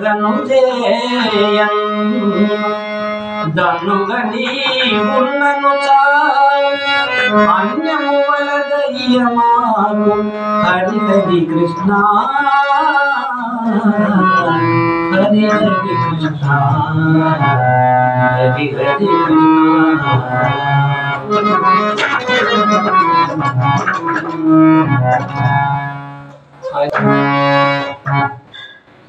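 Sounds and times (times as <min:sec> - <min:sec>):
man singing: 0:00.0 - 0:26.0
harmonium drone and chords: 0:00.0 - 0:29.0.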